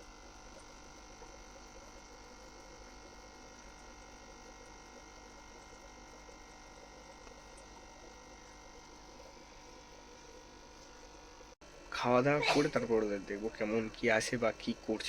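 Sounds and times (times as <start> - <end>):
faint steady hum and hiss: 0.0 - 15.0.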